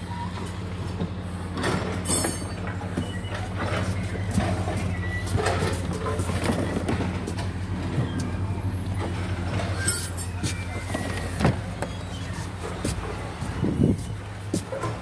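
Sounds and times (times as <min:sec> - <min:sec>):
engine running: 0:00.0 - 0:15.0
knocks and clatter of work: 0:00.0 - 0:15.0.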